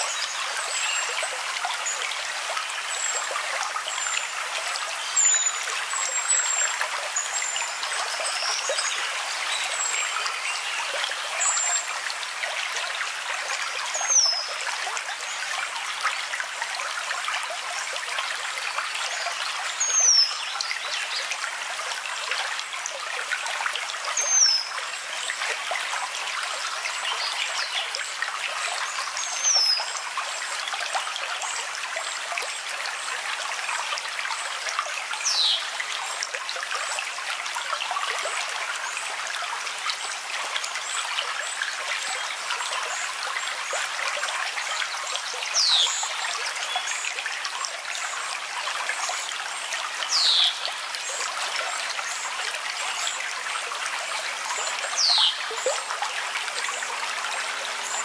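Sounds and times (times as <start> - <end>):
stream trickling: 0.0 - 58.0.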